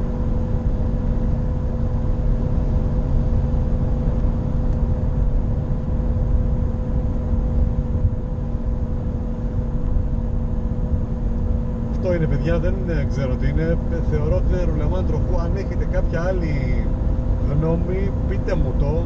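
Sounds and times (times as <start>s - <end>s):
loud droning hum: 0.0s - 19.0s
road rumble: 0.0s - 19.0s.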